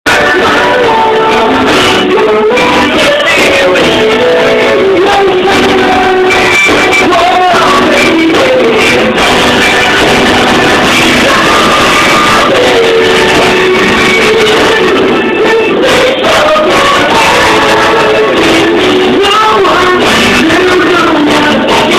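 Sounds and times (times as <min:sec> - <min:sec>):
lead vocal singing: 0:00.1 - 0:21.9
live band playing: 0:00.1 - 0:21.9.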